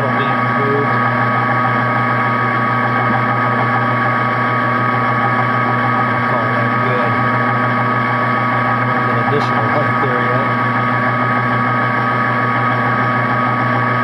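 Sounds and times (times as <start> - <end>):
metal lathe running: 0.0 - 14.0.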